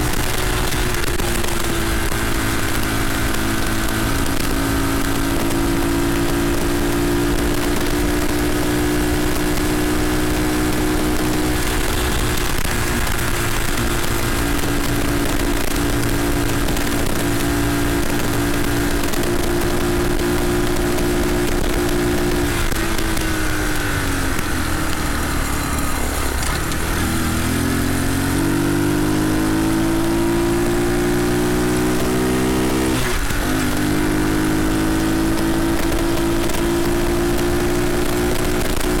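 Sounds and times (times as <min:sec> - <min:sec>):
mini bike engine running: 0:00.0 - 0:39.0.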